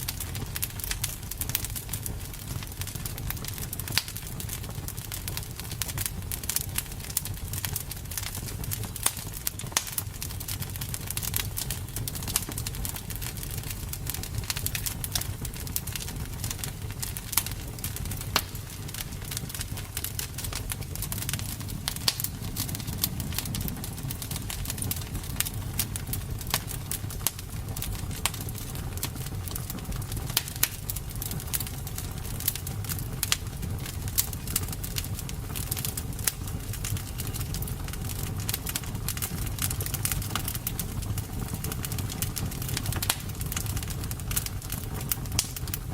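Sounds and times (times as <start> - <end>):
burning wood crackling and popping: 0.0 - 45.9
low rumble of flames: 0.0 - 45.9.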